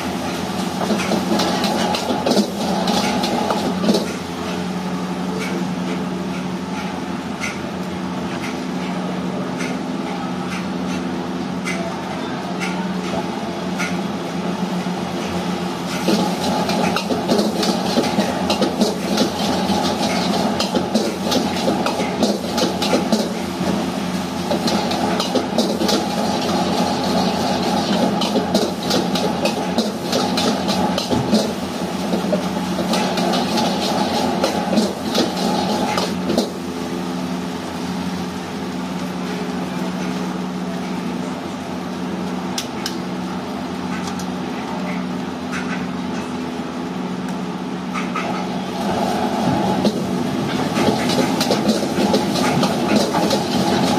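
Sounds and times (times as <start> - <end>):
steady mechanical hum: 0.0 - 53.9.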